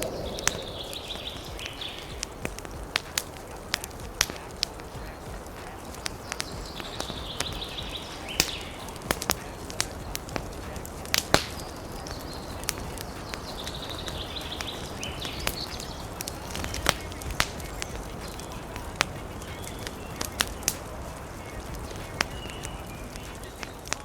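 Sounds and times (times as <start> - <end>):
hissing: 0.0 - 24.0
low wind rumble: 0.0 - 24.0
wood fire crackling: 0.0 - 24.0.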